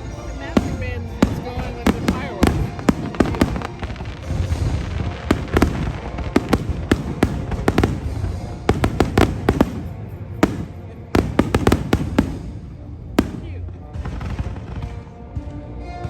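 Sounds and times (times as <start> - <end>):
fireworks exploding: 0.3 - 15.0.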